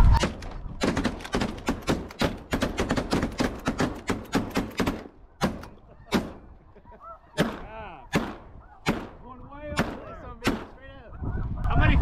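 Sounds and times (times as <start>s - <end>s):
shotgun shots: 0.1s - 6.4s, 7.4s - 10.8s.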